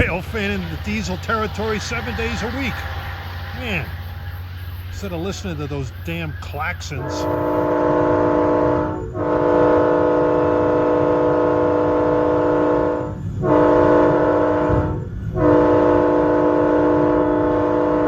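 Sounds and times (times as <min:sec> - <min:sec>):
locomotive air horn blasts: 0:00.0 - 0:04.2, 0:05.0 - 0:18.0.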